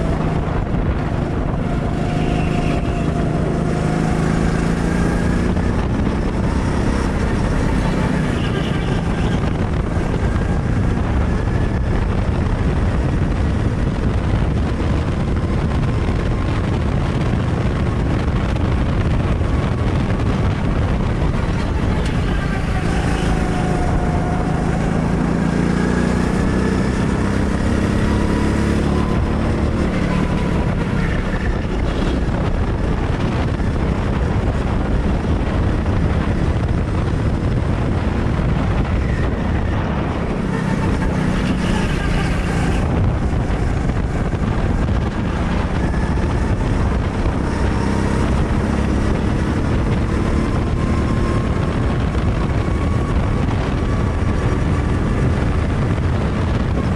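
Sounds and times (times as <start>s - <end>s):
go-kart engine running hard: 0.0s - 56.9s
wind noise on microphone: 0.0s - 56.9s.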